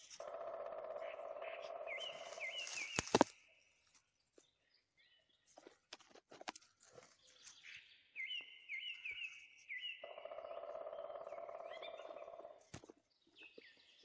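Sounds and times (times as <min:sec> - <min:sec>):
rustles of grass and leaves: 0:00.0 - 0:13.8
small bird chirping: 0:00.0 - 0:14.0.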